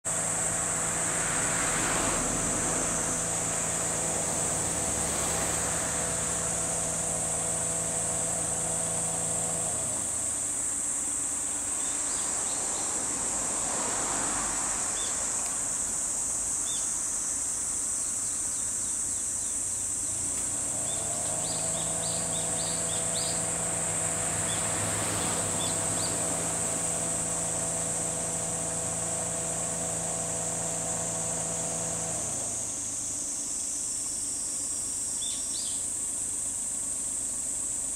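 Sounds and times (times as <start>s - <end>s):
cicadas droning: 0.0s - 37.9s
low engine-like hum: 0.0s - 37.9s.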